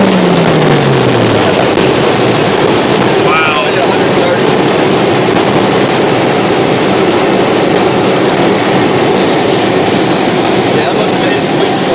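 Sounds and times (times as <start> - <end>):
car driving at speed: 0.0 - 11.9.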